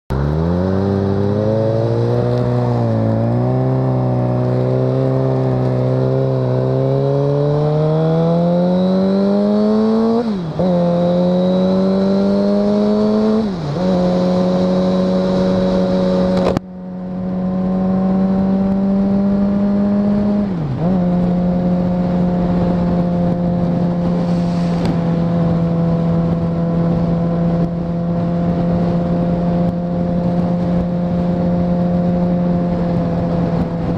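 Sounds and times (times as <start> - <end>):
car engine revving under load: 0.1 - 33.9.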